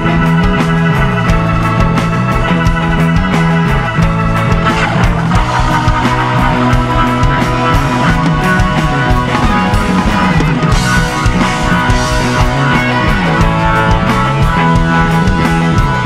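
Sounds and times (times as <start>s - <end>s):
drum kit beat: 0.0s - 16.0s
electric guitar: 0.0s - 16.0s.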